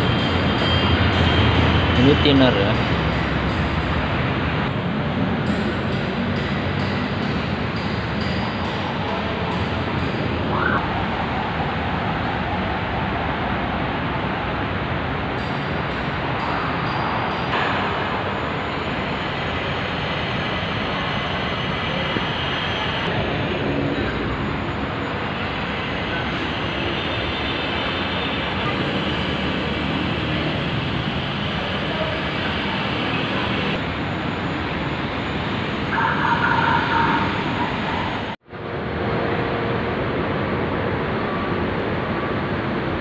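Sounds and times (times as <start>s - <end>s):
light-rail train running: 0.0s - 43.0s.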